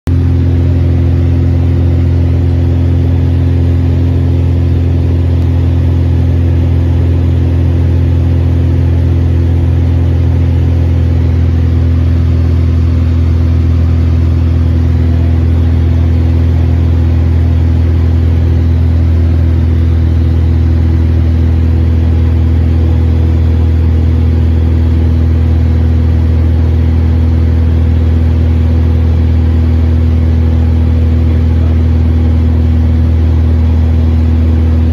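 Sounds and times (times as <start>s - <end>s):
aircraft engine and propeller droning: 0.1s - 34.9s.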